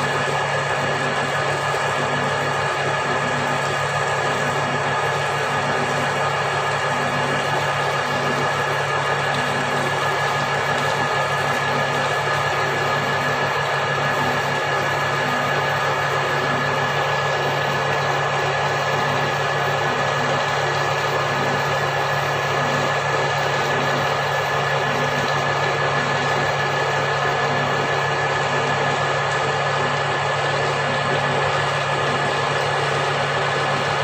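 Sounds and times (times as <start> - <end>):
machine hum with hiss: 0.0 - 34.0.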